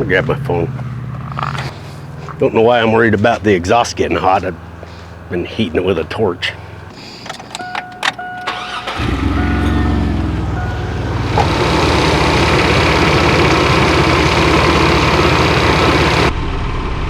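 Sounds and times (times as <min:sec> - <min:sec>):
car engine starting and idling: 0:00.0 - 0:16.4.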